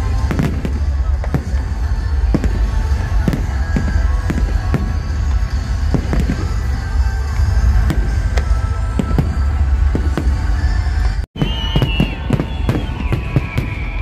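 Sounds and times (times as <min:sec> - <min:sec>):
low rumble of explosions: 0:00.0 - 0:14.0.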